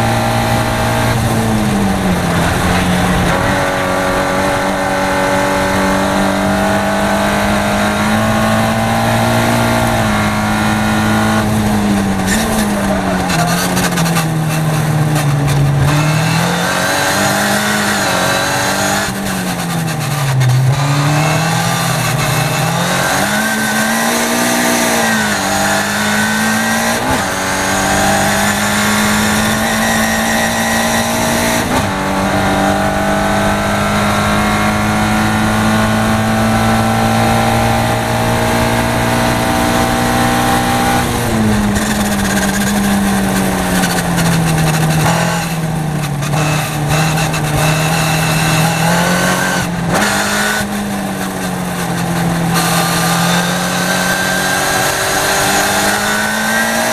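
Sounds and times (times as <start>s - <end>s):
race car engine accelerating: 0.0s - 56.9s.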